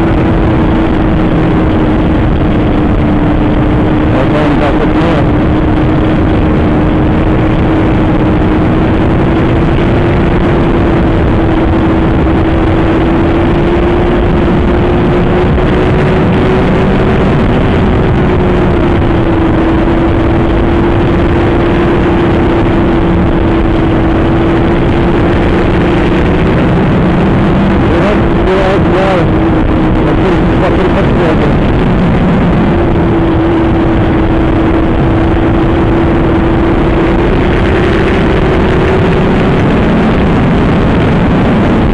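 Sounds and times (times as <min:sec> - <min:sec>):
heavy wind noise: 0:00.0 - 0:41.9
motorcycle engine at high speed: 0:00.0 - 0:41.9.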